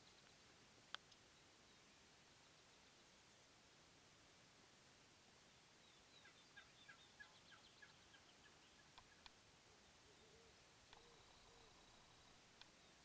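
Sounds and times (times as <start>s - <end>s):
faint wild birdsong: 0.0s - 13.0s.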